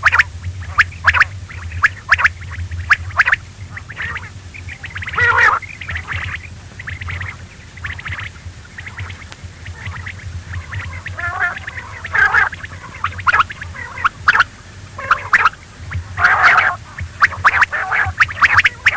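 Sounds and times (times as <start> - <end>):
low hum: 0.0 - 18.9
quail calling: 0.0 - 18.9.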